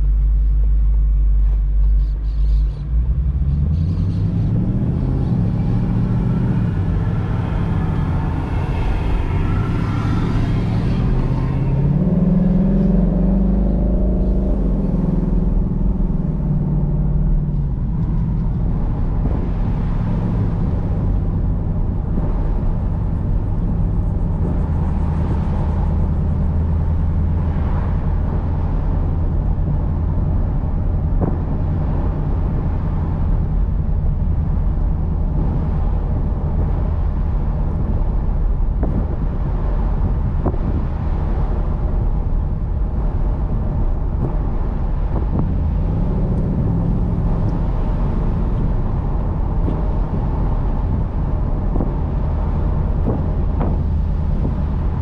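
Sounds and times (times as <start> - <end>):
car engine cruising: 0.0 - 55.0
wind and road noise: 0.0 - 55.0.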